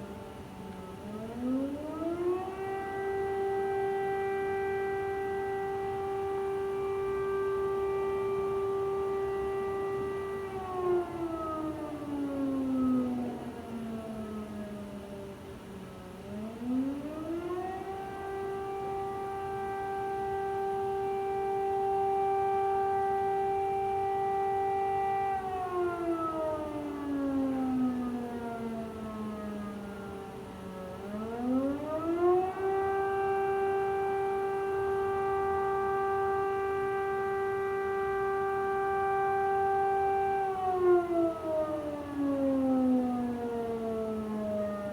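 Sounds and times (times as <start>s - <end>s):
air raid siren wailing: 0.0s - 44.9s.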